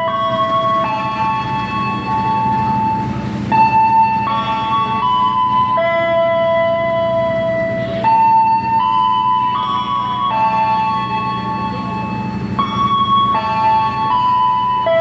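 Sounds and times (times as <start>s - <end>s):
electronic public-address tune: 0.0s - 15.0s.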